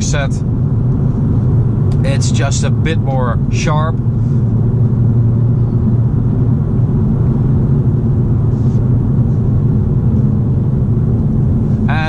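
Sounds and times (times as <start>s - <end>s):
car engine droning: 0.0s - 12.0s
road noise in cabin: 0.0s - 12.0s.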